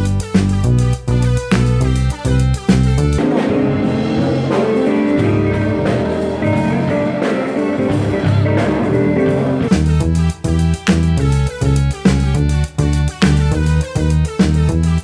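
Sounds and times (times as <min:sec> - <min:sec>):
drums: 0:00.0 - 0:15.0
electric bass guitar: 0:00.0 - 0:15.0
keyboard: 0:00.0 - 0:15.0.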